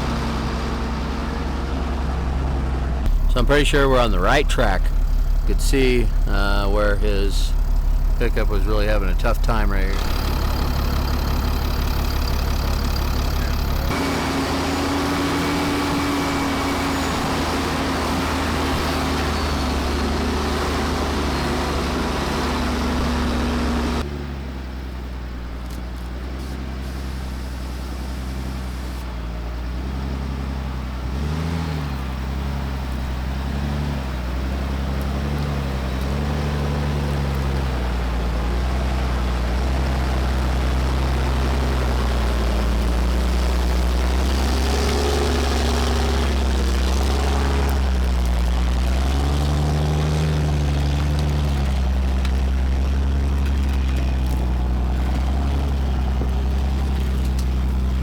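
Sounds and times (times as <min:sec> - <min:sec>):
truck diesel engine at low speed: 0:00.0 - 0:58.0.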